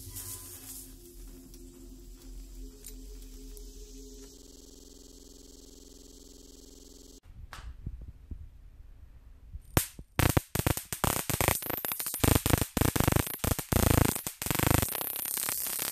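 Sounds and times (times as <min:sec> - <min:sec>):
electric sparks crackling on metal: 0:00.0 - 0:07.2, 0:09.8 - 0:15.9.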